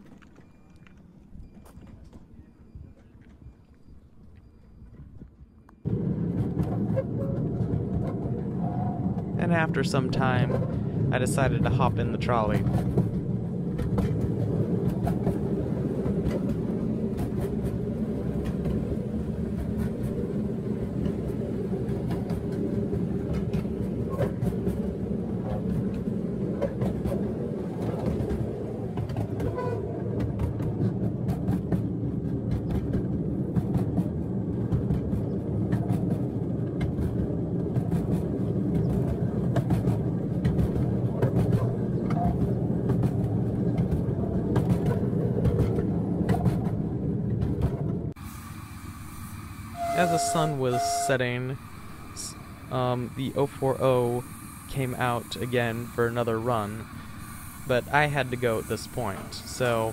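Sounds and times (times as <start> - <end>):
steel wheels rumbling on track: 0.0 - 59.9
wheels clicking over rail joints: 0.0 - 59.9.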